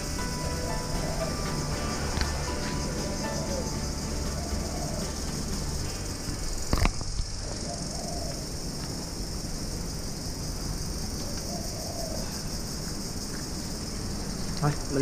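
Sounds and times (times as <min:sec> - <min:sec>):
faint distant bird calls: 0:00.0 - 0:09.2, 0:10.5 - 0:14.9
steady high hiss: 0:00.0 - 0:15.0.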